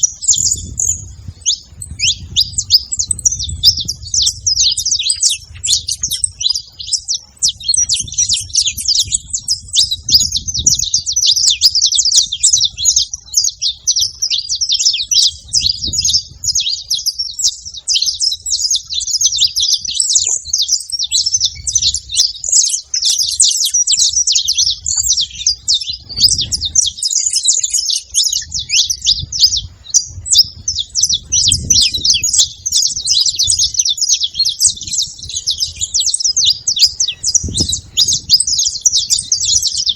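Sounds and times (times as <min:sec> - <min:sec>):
finches chirping and singing: 0:00.0 - 0:39.9.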